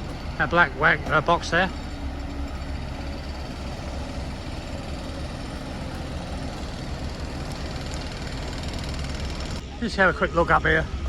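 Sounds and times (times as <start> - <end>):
diesel machinery engines rumbling: 0.0 - 11.0.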